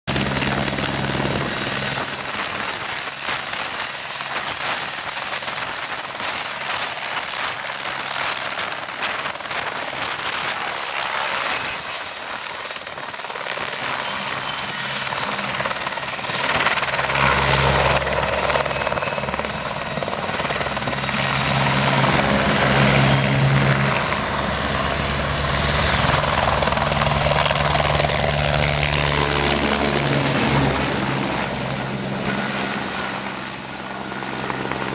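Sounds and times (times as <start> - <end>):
helicopter rotor beat: 0.1 - 34.9
helicopter turbine whine: 0.1 - 34.9.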